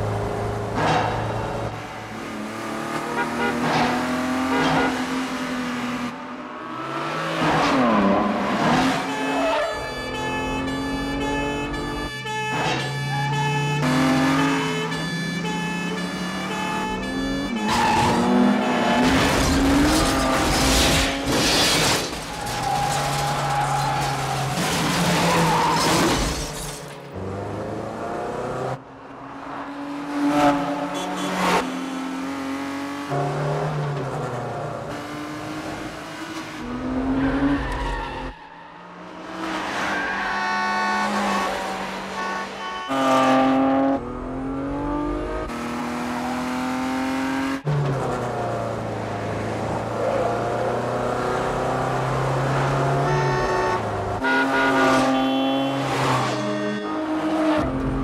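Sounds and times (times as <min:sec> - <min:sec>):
car engines revving hard: 0:00.0 - 0:09.5, 0:10.2 - 0:26.3, 0:27.1 - 0:58.0.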